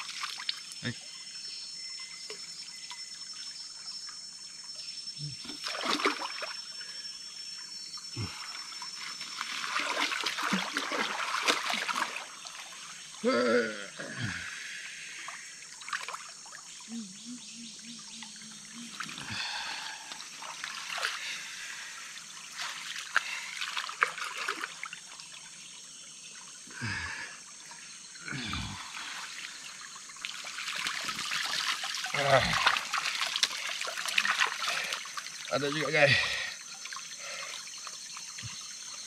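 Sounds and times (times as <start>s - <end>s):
water trickling and splashing: 0.0s - 1.1s, 2.2s - 7.1s, 7.7s - 17.2s, 18.0s - 39.0s.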